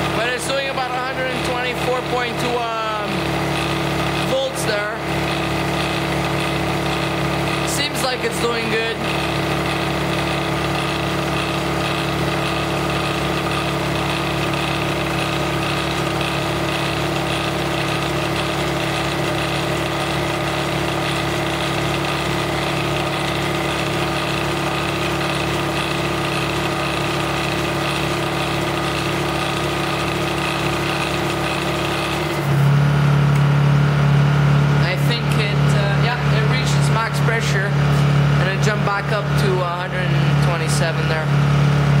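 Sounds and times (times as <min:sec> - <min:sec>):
air compressor running: 0:00.0 - 0:42.0
generator running under load: 0:00.0 - 0:42.0.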